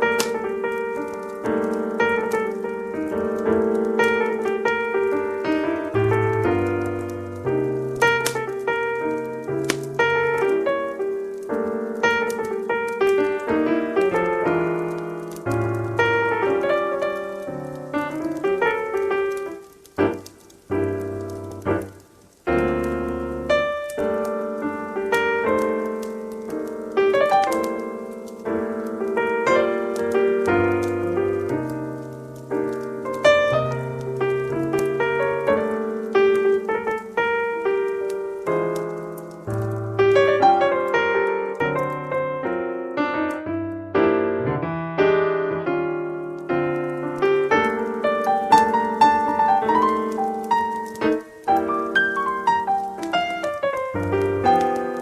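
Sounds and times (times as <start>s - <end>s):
slow jazz piano: 0.0s - 55.0s.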